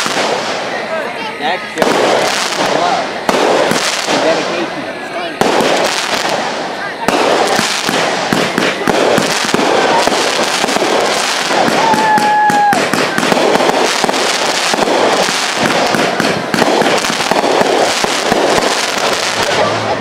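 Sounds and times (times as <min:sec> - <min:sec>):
fireworks bursting: 0:00.0 - 0:20.0
rapid firework crackling: 0:00.0 - 0:20.0.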